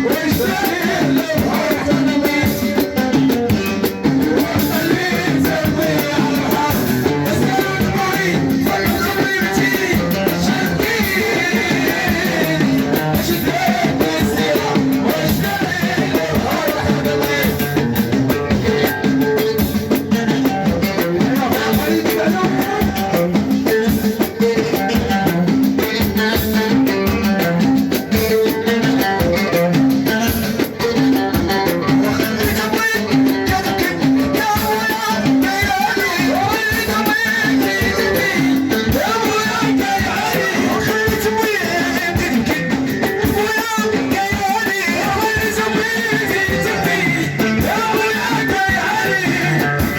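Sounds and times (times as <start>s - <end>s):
drum percussion: 0.0s - 49.9s
person singing: 0.0s - 49.9s.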